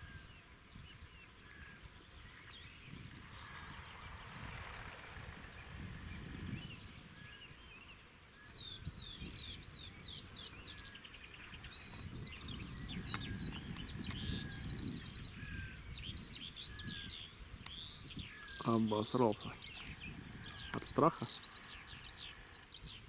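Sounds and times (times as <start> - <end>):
low rumbling outdoor background: 0.0 - 23.0
songbird singing: 0.0 - 23.0.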